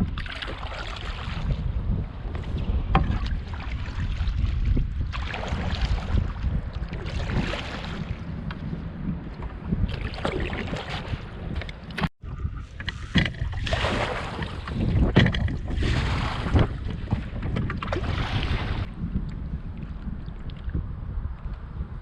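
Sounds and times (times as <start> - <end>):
paddle splashing in water: 0.0 - 18.9
wind buffeting microphone: 0.0 - 22.0.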